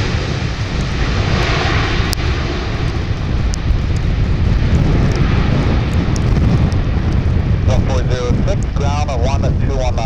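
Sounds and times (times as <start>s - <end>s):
airliner engines rumbling: 0.0s - 10.0s
wind buffeting microphone: 0.0s - 10.0s.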